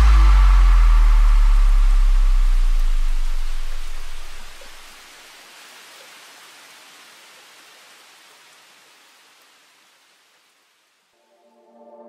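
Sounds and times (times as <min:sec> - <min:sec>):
steady hiss: 0:00.0 - 0:11.3.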